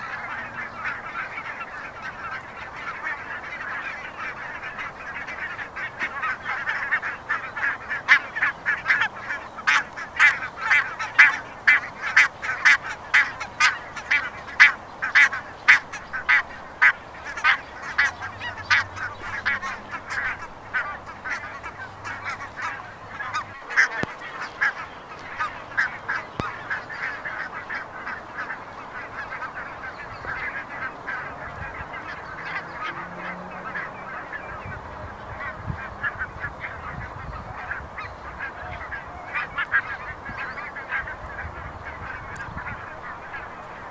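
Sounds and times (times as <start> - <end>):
flock of geese honking: 0.0 - 43.9.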